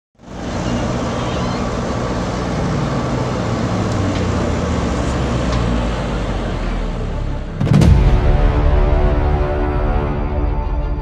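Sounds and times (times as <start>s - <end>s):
heavy diesel engines running: 0.2s - 11.0s.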